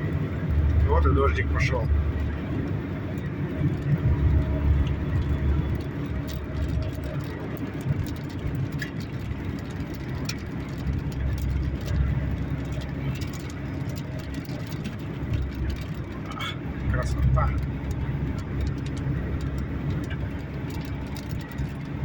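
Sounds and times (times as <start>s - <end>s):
low car rumble: 0.0s - 22.0s
raindrops ticking on car: 0.0s - 22.0s.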